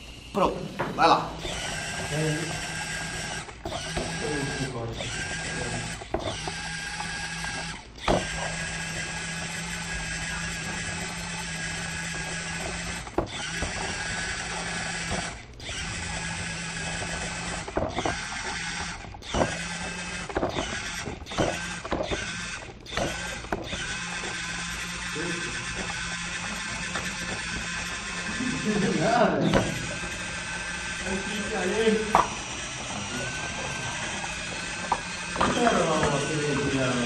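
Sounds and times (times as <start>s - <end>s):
robot motors whirring: 0.0s - 37.0s.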